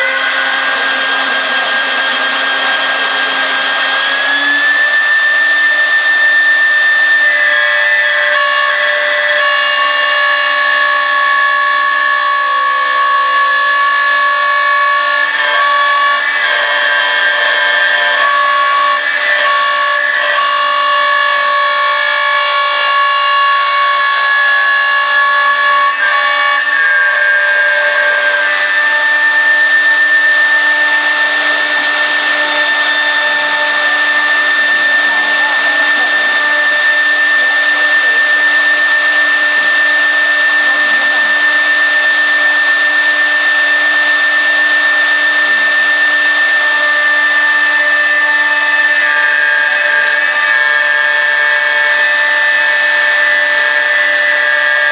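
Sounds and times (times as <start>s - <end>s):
hiss of wood cutting: 0.0s - 54.9s
router spindle whining: 0.0s - 54.9s.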